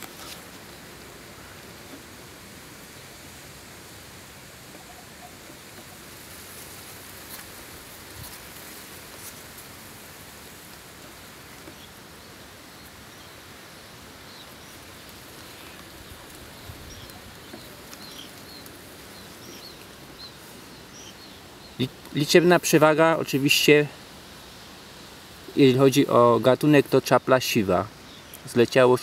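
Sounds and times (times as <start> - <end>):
outdoor background hiss: 0.0 - 29.0
small birds chirping: 3.9 - 29.0.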